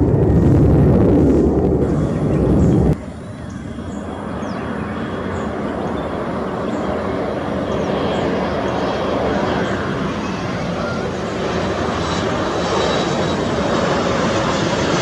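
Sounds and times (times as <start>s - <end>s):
jet engines roaring: 0.0s - 15.0s
quieter jet rumble: 0.0s - 15.0s.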